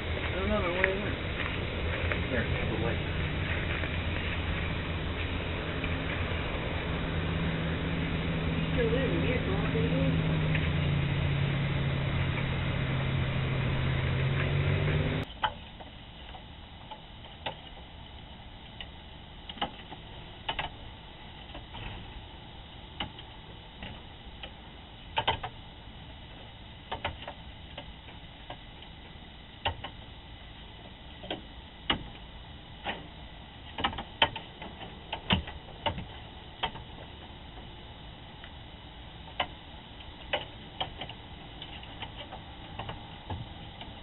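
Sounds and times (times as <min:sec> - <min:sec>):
microphone hiss: 0:00.0 - 0:44.0.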